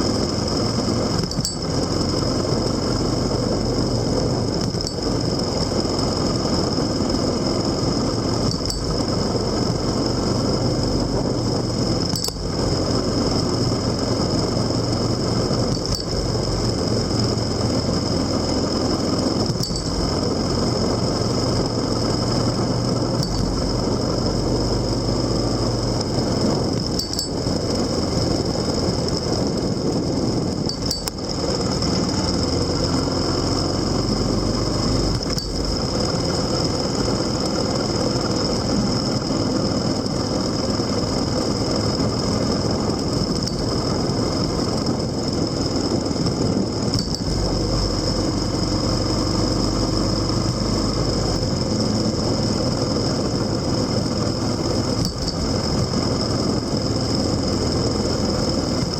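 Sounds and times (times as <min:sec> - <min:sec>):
road and wind noise: 0:00.0 - 0:58.9
vehicle engine running: 0:00.0 - 0:58.9.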